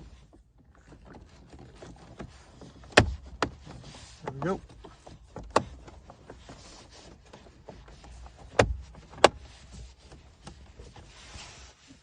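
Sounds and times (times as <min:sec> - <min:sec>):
light plastic handling rattles: 0:00.0 - 0:12.0.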